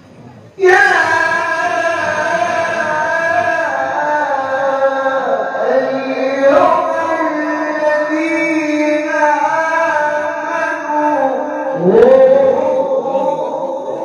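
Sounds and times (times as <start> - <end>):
man reciting melodically into microphone: 0.6 - 14.0.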